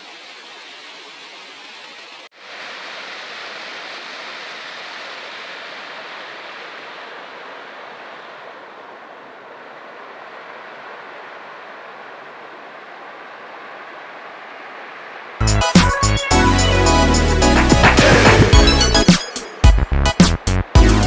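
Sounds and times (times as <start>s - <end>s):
waterfall cascading over rocks: 0.0s - 21.0s.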